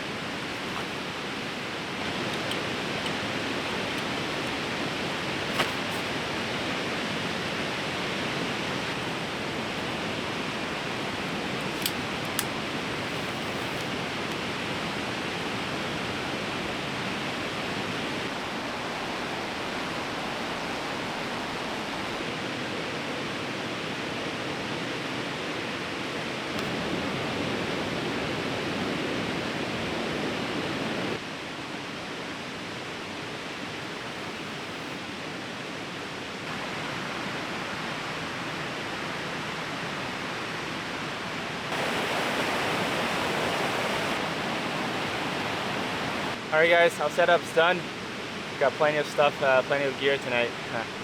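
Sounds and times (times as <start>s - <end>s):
river rushing: 0.0s - 51.0s.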